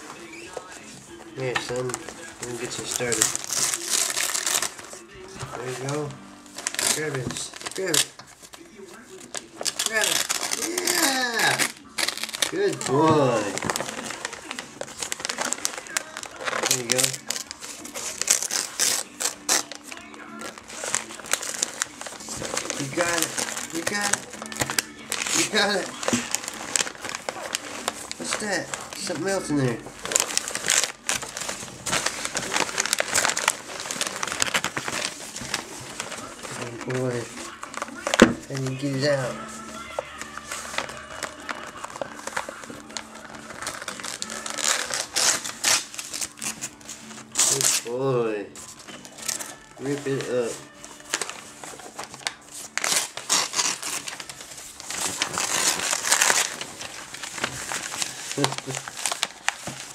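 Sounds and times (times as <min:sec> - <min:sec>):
paper crinkling and rustling: 0:00.0 - 0:59.9.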